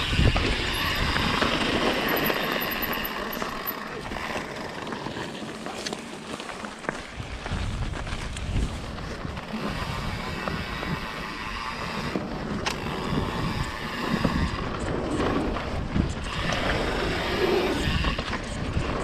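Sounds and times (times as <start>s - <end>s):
wind buffeting microphone: 0.0s - 5.1s, 6.9s - 19.0s
bike tyres rolling on dirt: 0.0s - 19.0s.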